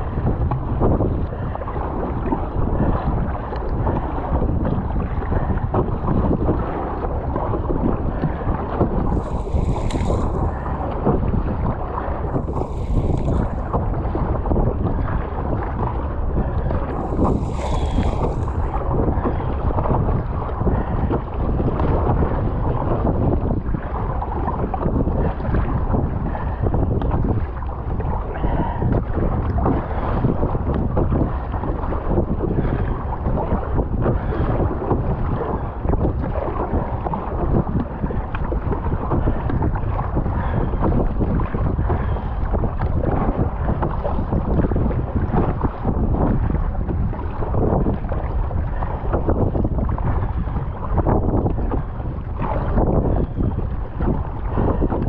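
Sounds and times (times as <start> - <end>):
water slapping against hull: 0.0 - 55.0
wind buffeting microphone: 0.0 - 55.0.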